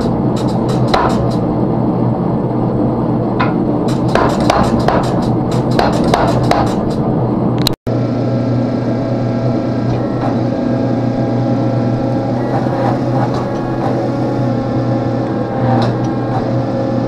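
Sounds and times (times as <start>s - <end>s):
forge blower humming: 0.0s - 17.0s.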